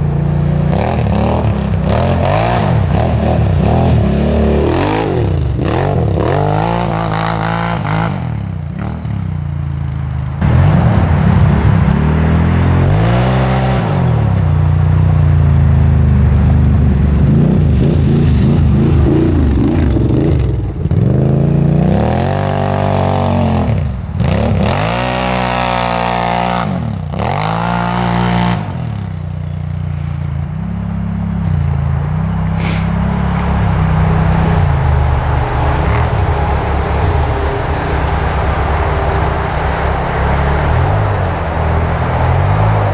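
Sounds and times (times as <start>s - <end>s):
atv engine revving: 0.0s - 42.9s.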